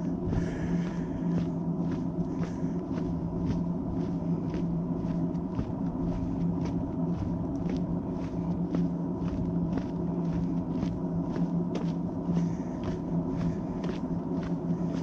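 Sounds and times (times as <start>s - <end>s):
footsteps on a trail: 0.0s - 15.0s
low mechanical drone: 0.0s - 15.0s.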